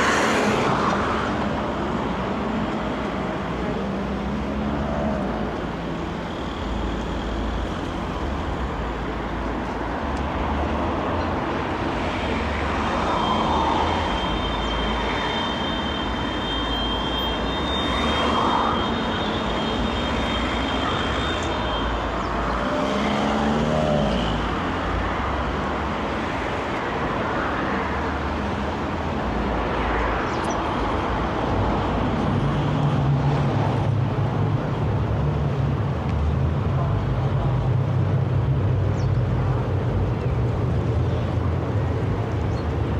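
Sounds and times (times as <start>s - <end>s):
road traffic passing: 0.0s - 42.9s.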